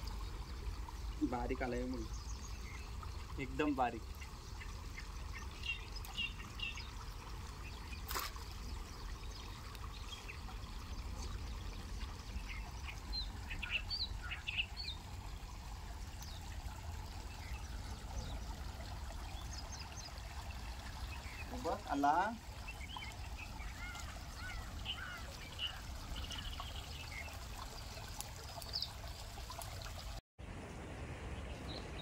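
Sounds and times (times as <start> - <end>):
creek water trickling over rocks: 0.0 - 32.0.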